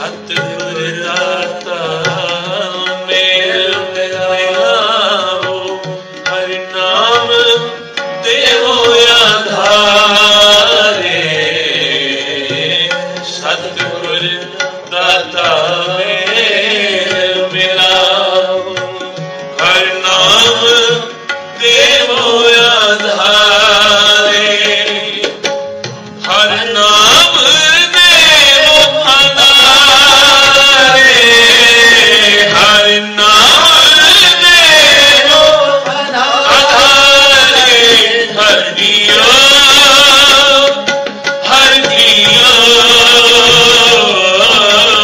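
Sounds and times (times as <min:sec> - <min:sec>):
man singing a hymn: 0:00.0 - 0:25.2, 0:26.3 - 0:45.0
harmonium chords: 0:00.0 - 0:45.0
tabla drumming: 0:00.0 - 0:45.0.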